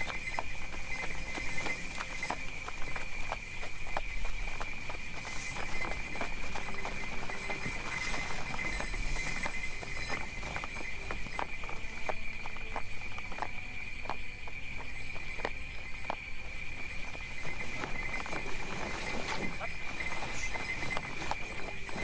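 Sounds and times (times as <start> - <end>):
horse hooves clopping: 0.0 - 22.0.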